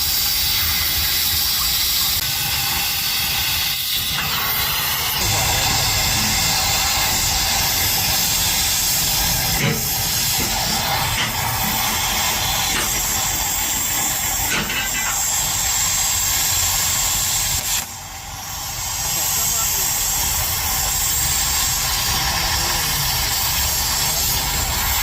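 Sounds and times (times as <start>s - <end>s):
loud steady hiss: 0.0s - 25.0s.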